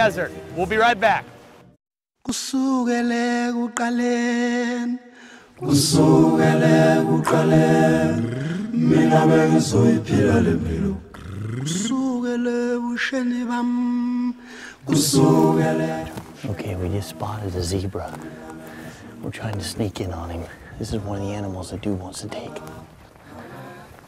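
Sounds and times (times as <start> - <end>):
unaccompanied voices singing: 0.0 - 0.7, 2.3 - 24.0.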